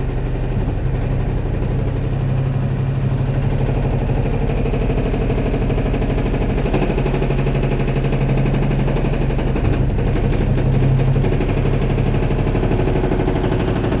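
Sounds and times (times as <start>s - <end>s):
washing machine running: 0.0s - 14.0s.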